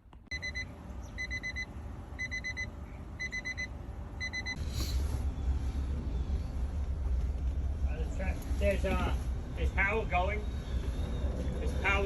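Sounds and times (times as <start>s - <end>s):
steady low rumble: 0.4s - 12.0s.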